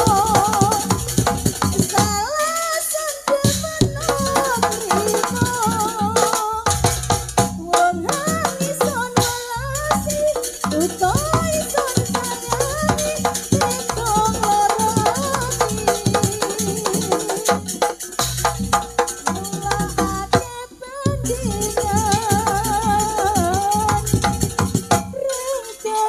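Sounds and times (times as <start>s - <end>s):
drum and percussion strokes: 0.0s - 26.0s.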